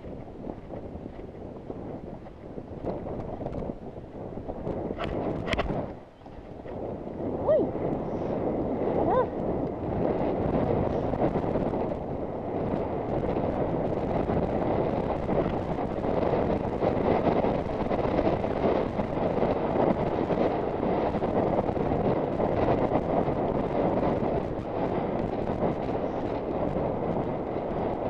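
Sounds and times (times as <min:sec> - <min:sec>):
wind buffeting camera microphone: 0:00.0 - 0:28.0.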